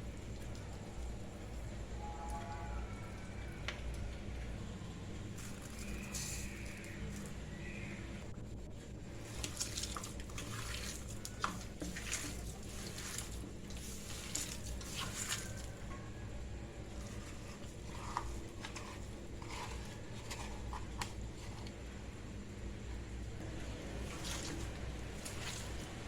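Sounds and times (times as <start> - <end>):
steady low hum: 0.0 - 26.0
wet squishes of mince: 0.0 - 26.0.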